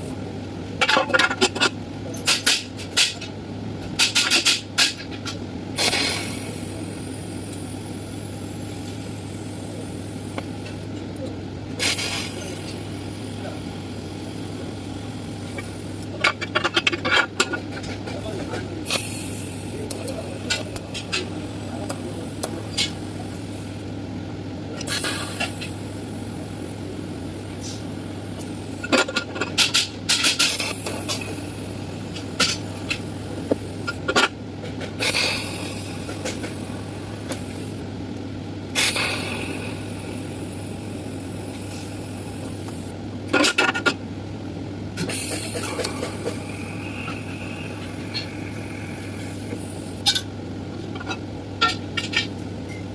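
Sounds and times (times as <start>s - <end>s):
welding machine hum: 0.0s - 52.6s.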